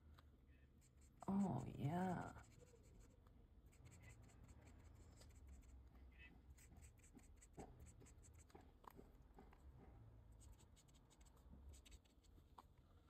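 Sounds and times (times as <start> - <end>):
marker scratching on paper: 0.8 - 9.0, 10.3 - 12.6.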